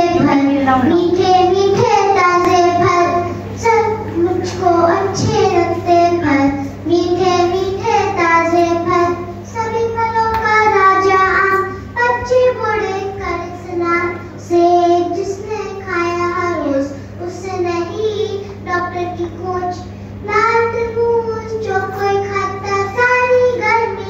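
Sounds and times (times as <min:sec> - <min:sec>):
girl singing into microphone: 0:00.0 - 0:24.0
steady low hum: 0:00.0 - 0:24.0.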